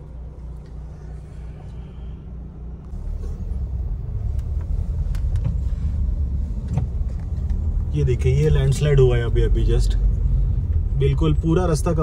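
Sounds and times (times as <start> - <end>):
car rumbling on road: 0.0 - 12.0.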